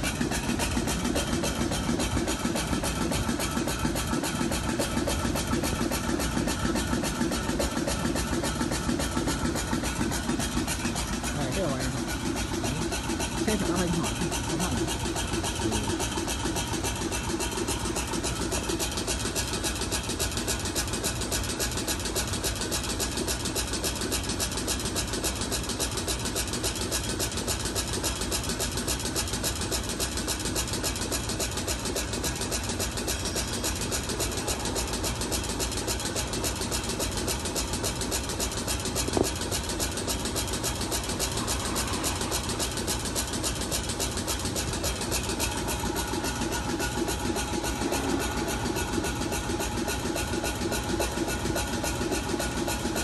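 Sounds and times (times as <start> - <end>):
machine and conveyor drone: 0.0 - 53.0.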